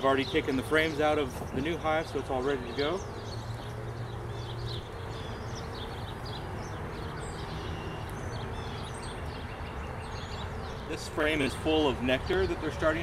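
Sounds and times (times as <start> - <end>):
birds chirping: 0.0 - 13.0
bees buzzing: 0.5 - 11.8.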